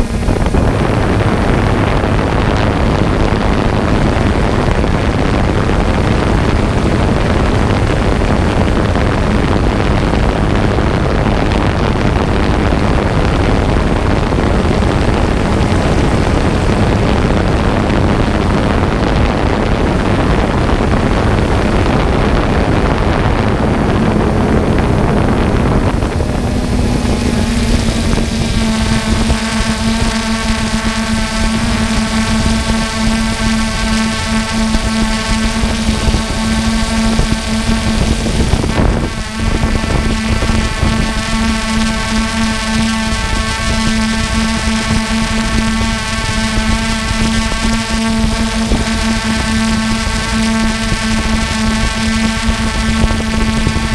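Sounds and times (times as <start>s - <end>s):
drone propellers rushing: 0.0s - 53.9s
motor hum: 0.0s - 53.9s
steady pitched whine: 0.0s - 53.9s
wind on microphone: 0.0s - 53.9s.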